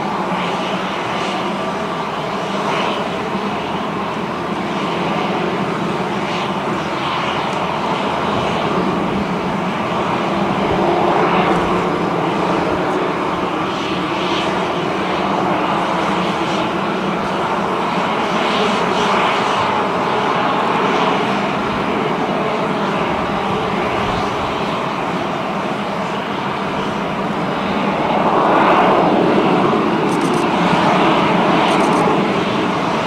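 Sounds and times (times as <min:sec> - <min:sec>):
jet engines idling: 0:00.0 - 0:33.0.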